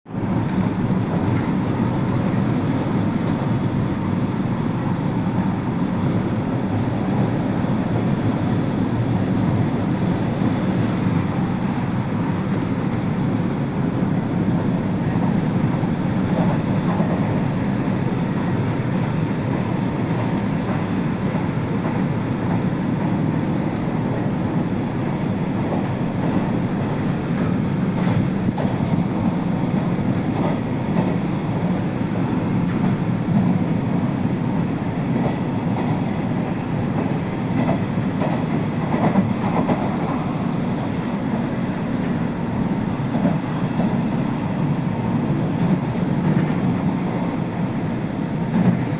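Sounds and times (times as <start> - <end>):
train wheels rumbling on rail: 0.1 - 48.9.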